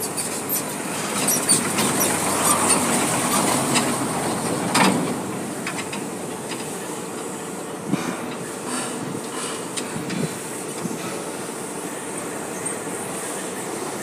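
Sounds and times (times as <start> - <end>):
forklifts running: 0.0 - 14.0.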